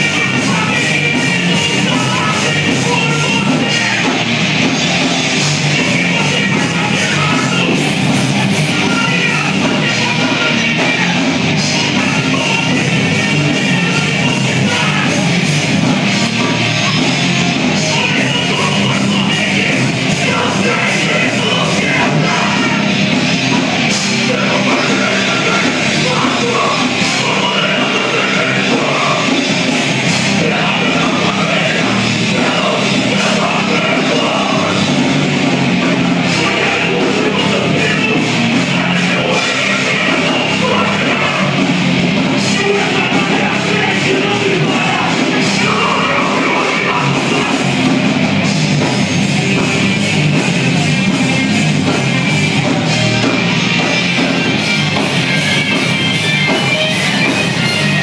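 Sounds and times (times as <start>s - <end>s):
shouted vocals: 0.0s - 48.3s
loud live rock band: 0.0s - 58.0s.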